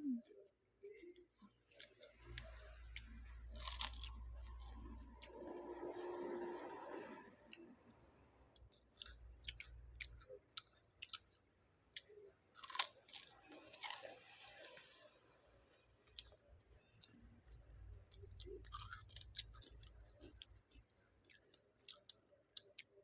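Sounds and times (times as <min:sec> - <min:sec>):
chewing and crunching food: 0:00.2 - 0:23.0.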